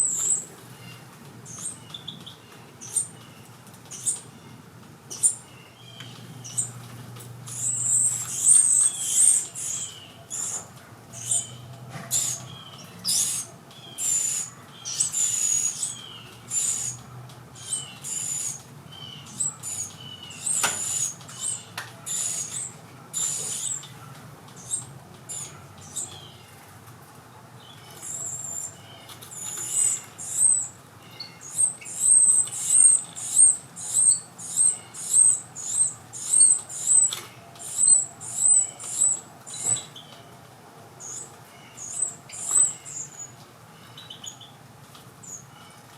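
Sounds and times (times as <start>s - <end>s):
nestlings chirping: 0.0s - 4.5s, 5.1s - 26.6s, 27.6s - 40.2s, 41.0s - 44.6s.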